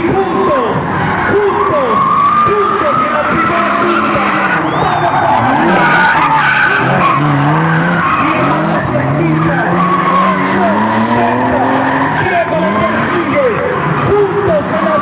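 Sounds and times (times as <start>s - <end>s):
car engines revving: 0.0s - 15.0s
tyres screeching: 1.1s - 13.4s.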